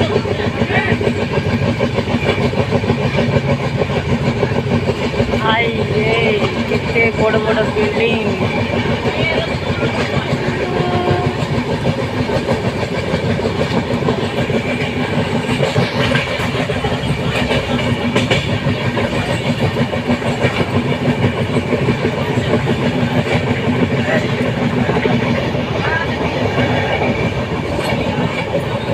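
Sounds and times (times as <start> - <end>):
train rumbling on track: 0.0 - 28.9.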